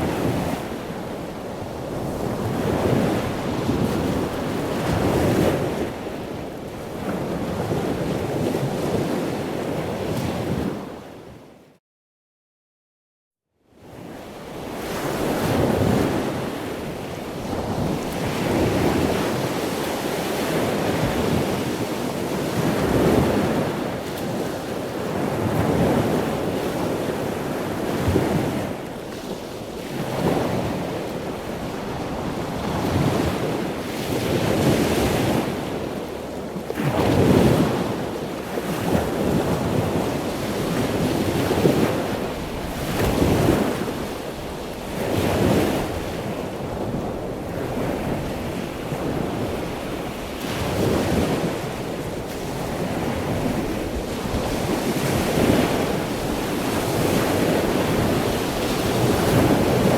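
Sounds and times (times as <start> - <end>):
ocean waves breaking on shore: 0.0 - 11.6, 13.8 - 59.9.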